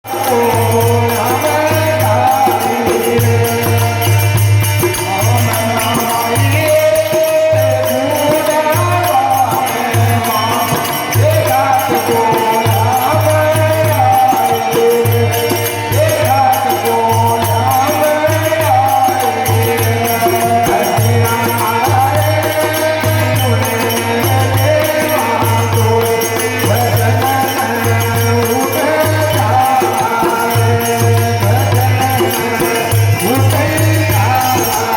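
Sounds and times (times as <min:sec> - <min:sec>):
fast rhythmic percussion: 0:00.0 - 0:34.9
folk chanting singing: 0:00.0 - 0:34.9.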